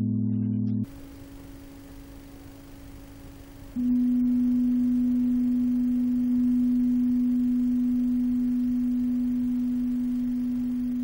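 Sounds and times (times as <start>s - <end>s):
low electronic tone: 0.0s - 11.0s.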